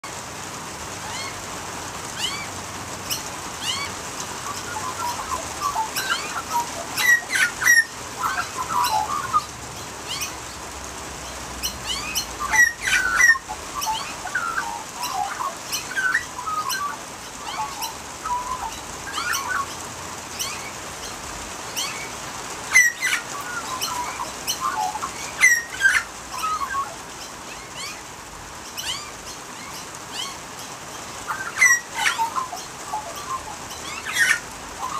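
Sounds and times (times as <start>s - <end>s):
rain hiss: 0.0s - 34.9s
magpies warbling: 1.0s - 34.9s
sharp bird calls: 1.0s - 34.9s.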